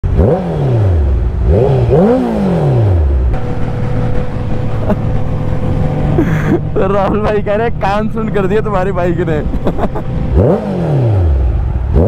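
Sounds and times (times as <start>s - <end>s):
motorcycle droning at speed: 0.0s - 12.0s
motorcycle engine revving: 0.0s - 12.0s.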